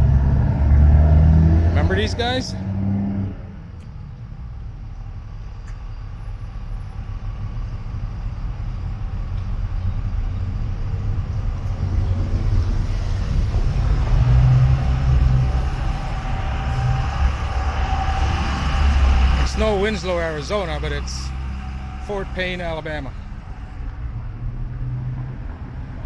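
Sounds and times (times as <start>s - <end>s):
low vehicle rumble: 0.0s - 26.0s.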